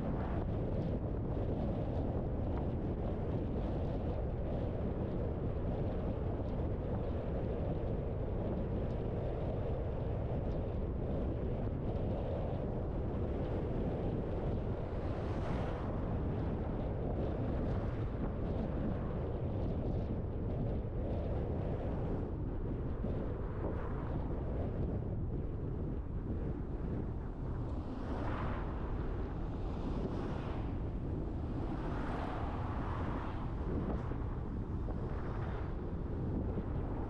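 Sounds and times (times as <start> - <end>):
car wind and road noise: 0.0 - 37.0.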